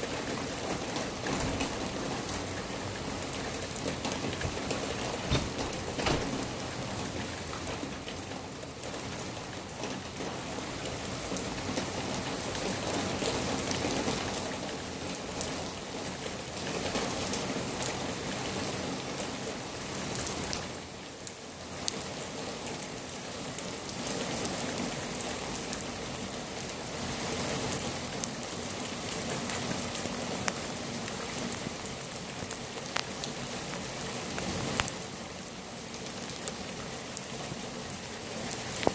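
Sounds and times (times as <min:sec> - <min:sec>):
raindrops ticking nearby: 0:00.0 - 0:38.9
steady rain falling: 0:00.0 - 0:38.9.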